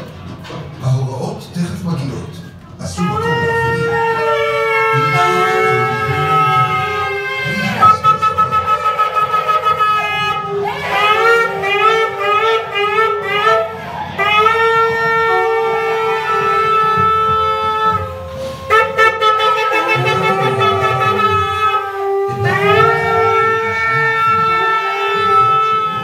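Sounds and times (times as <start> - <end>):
shofars blowing: 2.8 - 26.0.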